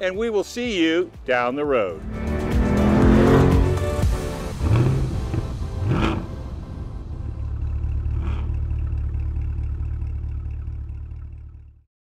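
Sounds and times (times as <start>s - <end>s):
car engine running: 1.9s - 11.8s.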